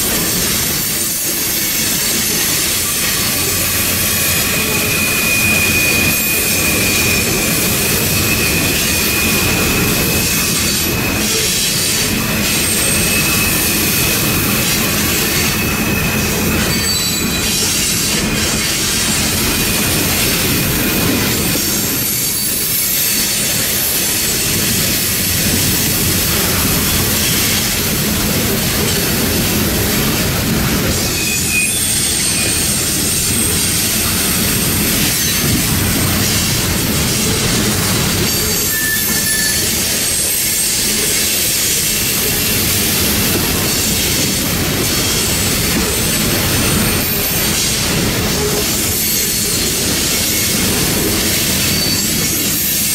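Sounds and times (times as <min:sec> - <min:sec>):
train wheels rumbling on rails: 0:00.0 - 0:52.9
wheel squeals: 0:00.1 - 0:52.9.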